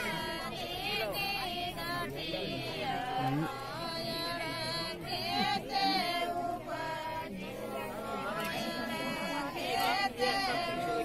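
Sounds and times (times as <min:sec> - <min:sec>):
voices singing devotional song: 0:00.0 - 0:11.0.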